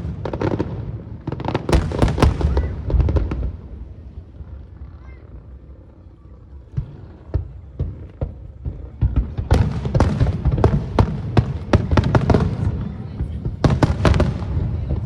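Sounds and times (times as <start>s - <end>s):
fireworks bangs and crackle: 0.0s - 15.0s.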